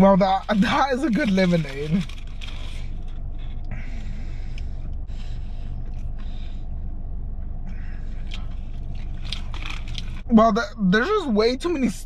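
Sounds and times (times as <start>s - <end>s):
constant hum: 0.0s - 12.0s
low rumble: 0.0s - 12.0s.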